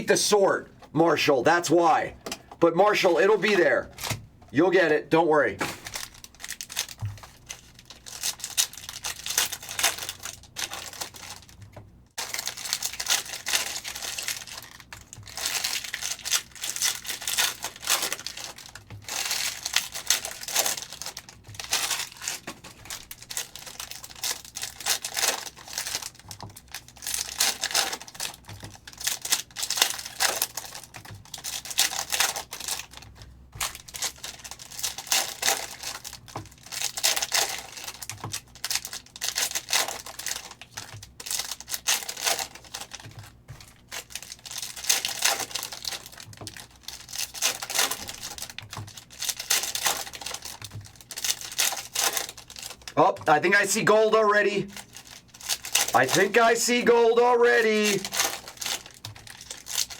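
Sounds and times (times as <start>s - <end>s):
plastic wrapping crinkling and tearing: 5.6s - 53.8s, 54.7s - 59.9s.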